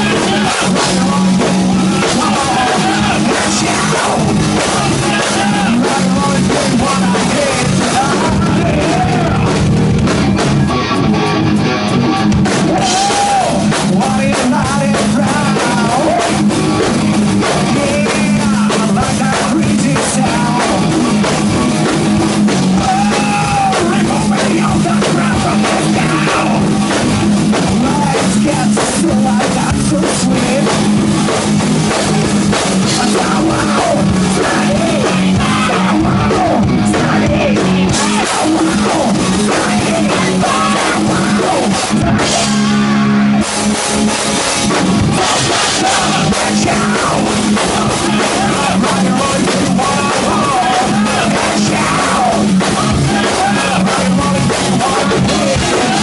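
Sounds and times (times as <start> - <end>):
hard rock band playing live: 0.0 - 56.0
lead vocals: 0.0 - 56.0.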